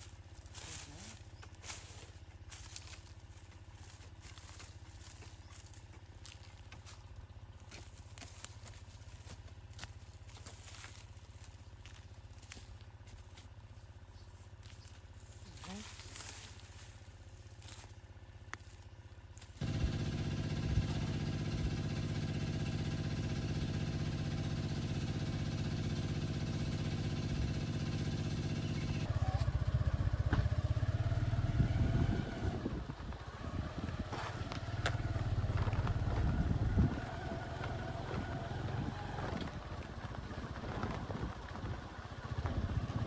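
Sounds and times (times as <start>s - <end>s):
engine running: 0.0s - 43.0s
uneven engine rumble with ticks: 0.0s - 43.0s.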